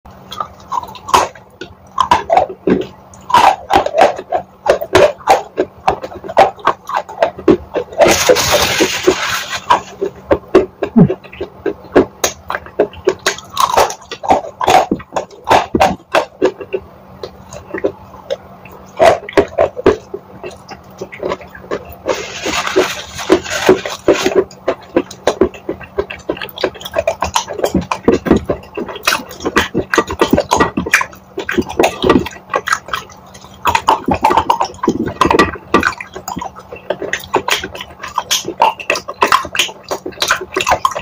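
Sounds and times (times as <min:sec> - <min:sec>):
crunching and chewing chalk: 0:00.1 - 0:41.0
wet mouth sounds: 0:00.1 - 0:41.0.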